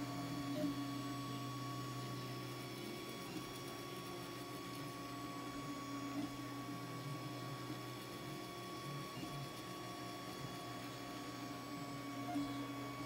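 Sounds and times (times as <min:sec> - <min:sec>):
faint whining tones: 0:00.0 - 0:13.0
three d printer humming: 0:00.0 - 0:13.0.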